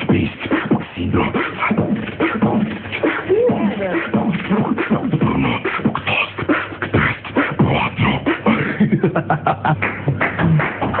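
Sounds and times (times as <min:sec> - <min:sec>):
person beatboxing: 0:00.0 - 0:11.0.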